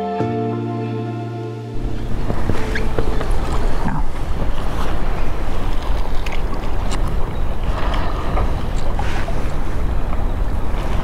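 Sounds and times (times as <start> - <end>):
water lapping: 1.8 - 11.0
wind buffeting microphone: 1.8 - 11.0.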